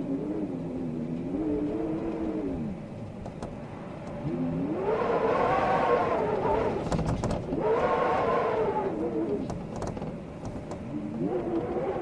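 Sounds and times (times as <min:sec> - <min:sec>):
storm wind howling: 0:00.0 - 0:12.0.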